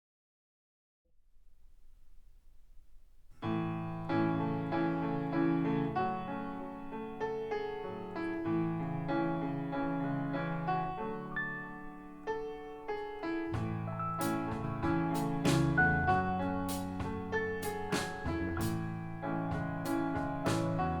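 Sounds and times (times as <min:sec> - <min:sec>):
piano over loudspeakers: 0:03.4 - 0:21.0.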